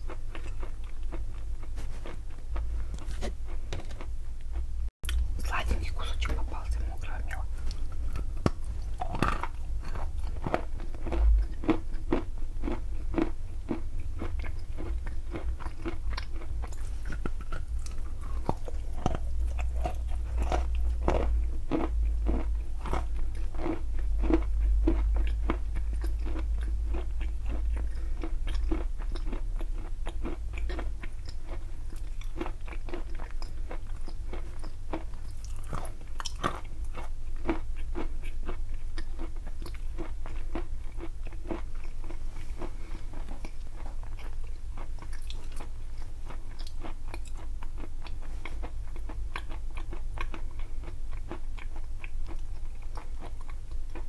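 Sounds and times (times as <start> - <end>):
crunching and chewing: 0.0 - 54.0.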